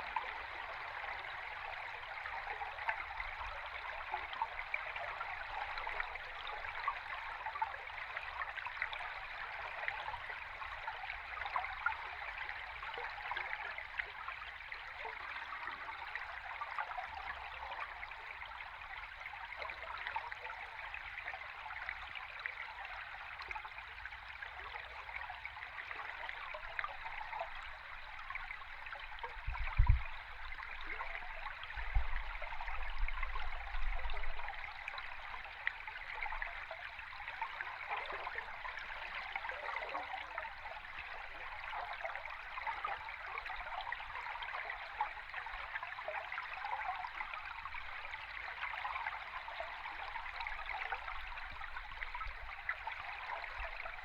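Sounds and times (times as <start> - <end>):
stream water heard underwater: 0.0 - 54.0.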